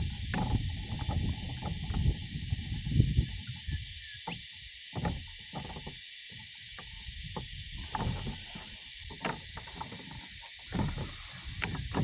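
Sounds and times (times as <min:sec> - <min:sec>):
cicadas buzzing: 0:00.0 - 0:12.0
water splashes: 0:00.0 - 0:12.0.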